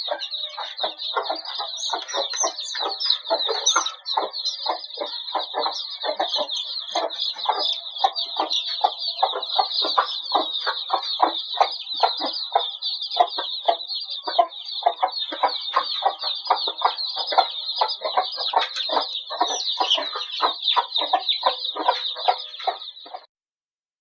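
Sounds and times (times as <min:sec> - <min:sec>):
chicks peeping: 0:00.0 - 0:23.3
hens clucking: 0:00.0 - 0:23.3.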